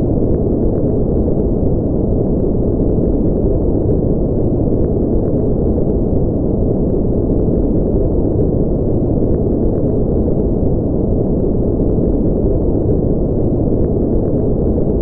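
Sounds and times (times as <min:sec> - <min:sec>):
deep rumbling noise: 0:00.0 - 0:15.0.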